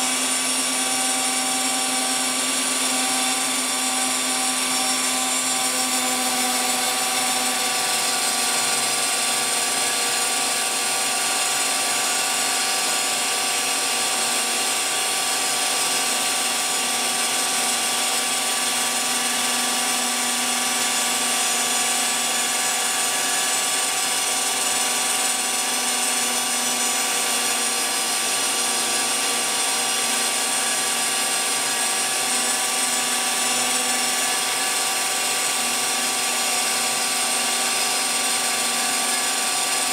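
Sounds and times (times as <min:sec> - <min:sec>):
mill spindle whining: 0:00.0 - 0:39.9.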